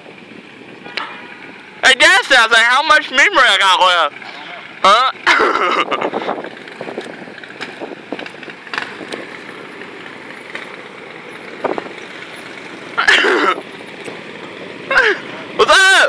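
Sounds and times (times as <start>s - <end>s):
cars rolling past: 0.0s - 16.0s.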